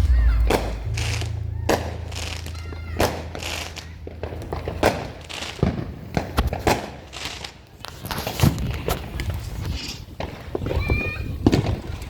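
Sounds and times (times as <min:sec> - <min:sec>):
fireworks popping: 0:00.0 - 0:12.0.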